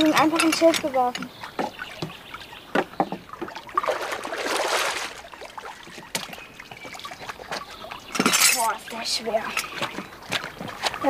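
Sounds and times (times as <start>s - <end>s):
water splashing from wading: 0.0s - 11.0s.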